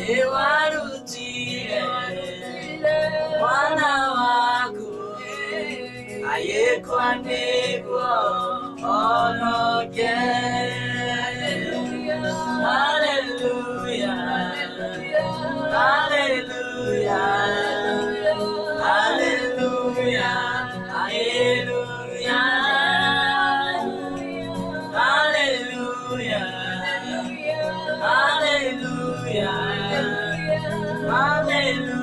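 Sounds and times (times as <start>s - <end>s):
electronic keyboard chords: 0.0s - 32.0s
voices singing in harmony: 0.0s - 32.0s.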